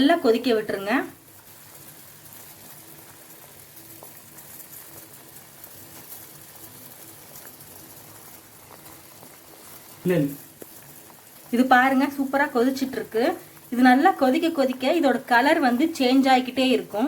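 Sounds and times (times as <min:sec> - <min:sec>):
liquid bubbling at a boil: 0:00.0 - 0:17.0.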